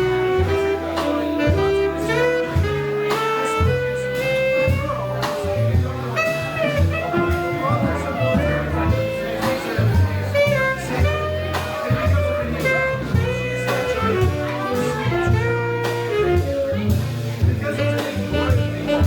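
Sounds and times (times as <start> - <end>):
live jazz band playing: 0.0 - 19.0.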